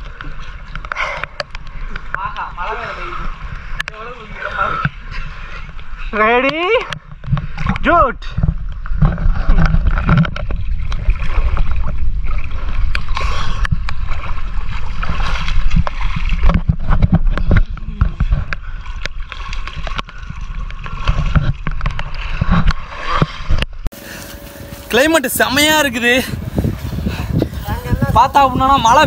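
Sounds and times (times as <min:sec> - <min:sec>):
low water churning: 0:00.0 - 0:29.0
water sloshing and splashing: 0:00.0 - 0:29.0.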